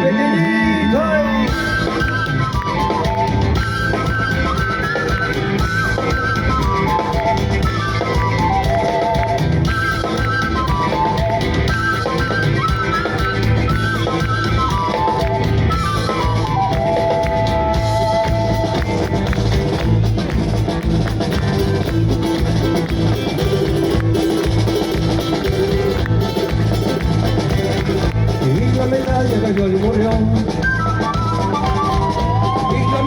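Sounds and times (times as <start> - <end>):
drums: 0.0 - 33.0
guitar: 0.0 - 33.0.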